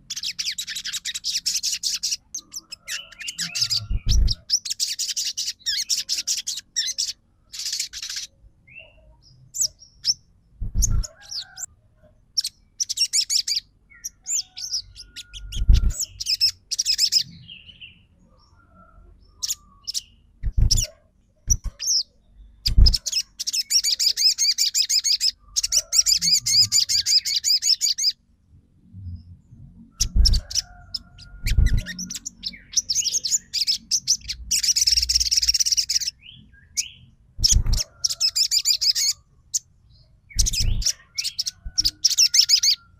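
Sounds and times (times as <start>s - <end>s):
sunbird twittering and trilling: 0.0s - 11.7s, 12.3s - 28.2s, 29.9s - 42.9s.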